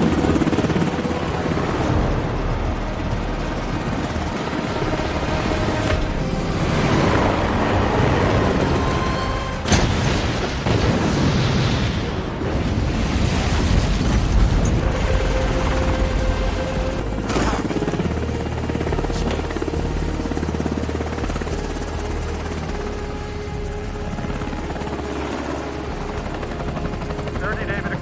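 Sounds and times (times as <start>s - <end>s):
helicopter rotor and engine: 0.0s - 11.4s, 12.0s - 28.0s
dramatic music score: 0.0s - 28.0s
heavy low rumble: 0.0s - 28.0s.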